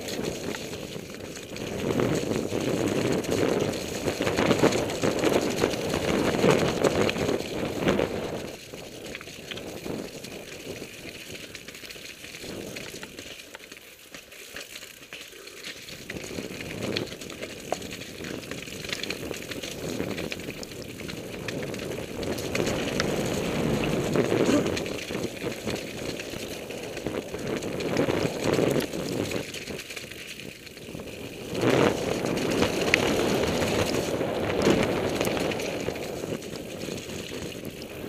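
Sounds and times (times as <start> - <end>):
bike rattling: 0.0 - 38.0
bike tyre and trail noise: 0.0 - 38.0.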